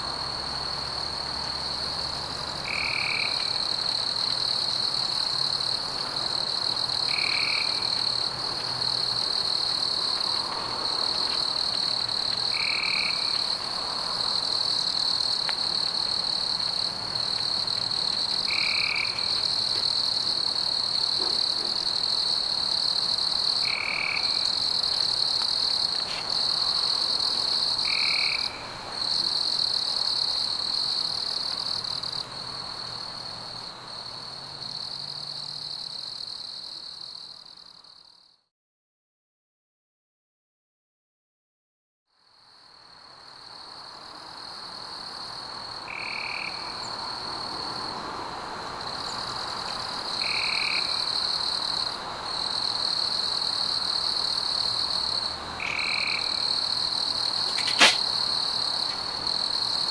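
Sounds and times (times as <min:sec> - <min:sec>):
insects and frogs trilling: 0:00.0 - 0:38.4, 0:42.2 - 0:59.9.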